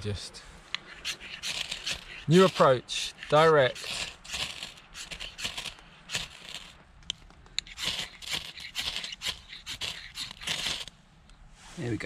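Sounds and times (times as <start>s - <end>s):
sharp scraping strokes: 0.6s - 6.8s, 7.6s - 12.0s.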